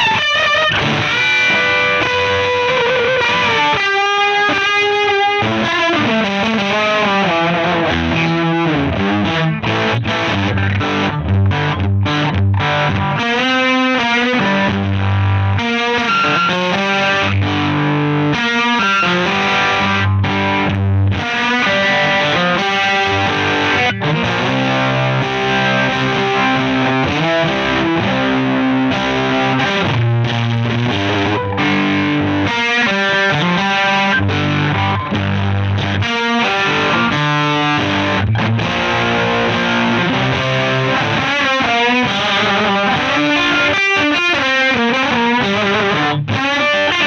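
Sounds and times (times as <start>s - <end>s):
distorted electric guitar: 0.0s - 47.0s.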